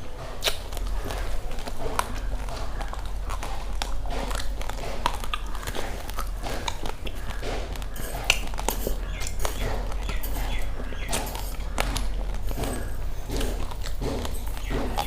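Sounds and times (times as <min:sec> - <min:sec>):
chewing crunchy rice: 0:00.0 - 0:15.0
steady low hum: 0:00.0 - 0:15.0.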